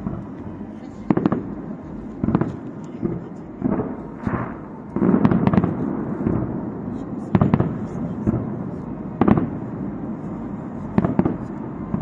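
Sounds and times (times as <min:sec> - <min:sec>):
fireworks bursting: 0:01.0 - 0:12.0.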